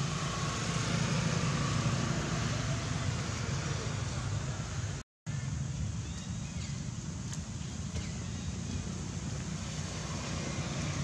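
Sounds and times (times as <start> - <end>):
low rumble with hiss: 1.2 - 11.0.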